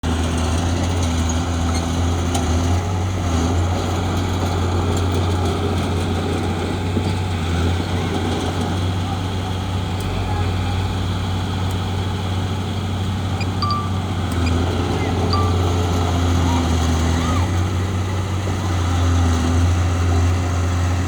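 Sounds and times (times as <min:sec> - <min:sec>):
bulldozer diesel engine droning: 0:00.1 - 0:21.0.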